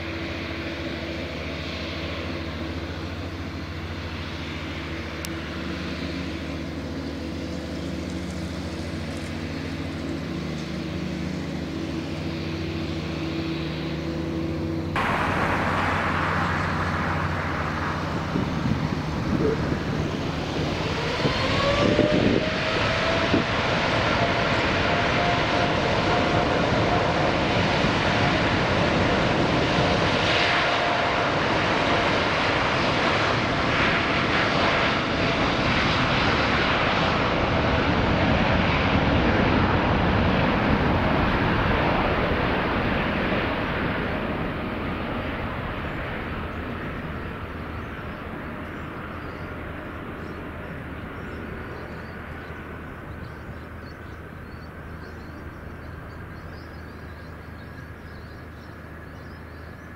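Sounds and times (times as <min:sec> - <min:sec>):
jet airliner taking off: 0:00.0 - 0:59.9.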